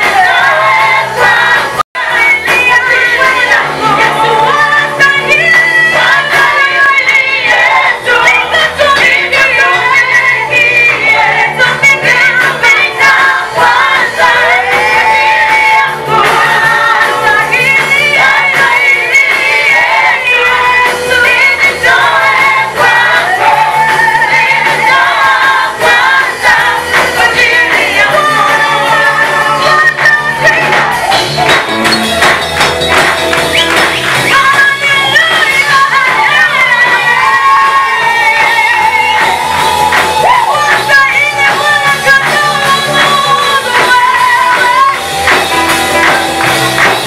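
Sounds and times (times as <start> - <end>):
gospel choir singing: 0.0 - 47.0
instrumental accompaniment: 0.0 - 47.0.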